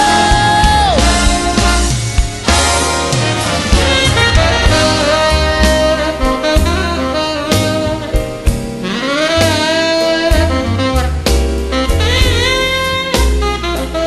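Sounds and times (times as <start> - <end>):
jazz saxophone solo: 0.0 - 14.0
swing band with drums and bass: 0.0 - 14.0.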